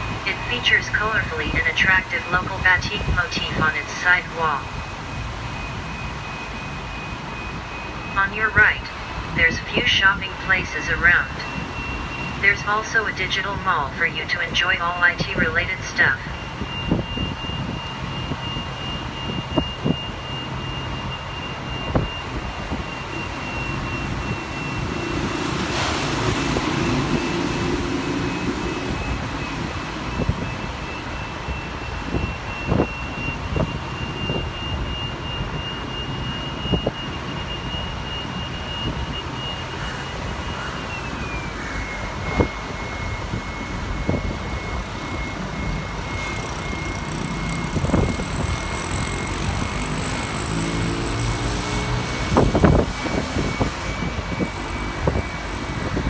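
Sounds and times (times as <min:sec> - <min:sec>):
bus engine and road rumble: 0:00.0 - 0:56.0
high-pitched whine: 0:00.0 - 0:56.0
rushing noise: 0:00.0 - 0:56.0.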